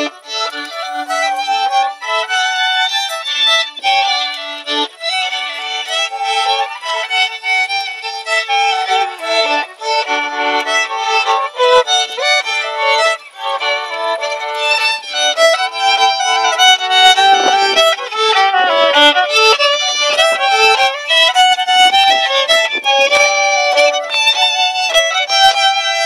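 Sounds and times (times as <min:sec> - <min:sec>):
fiddle playing dance tune: 0:00.0 - 0:26.0.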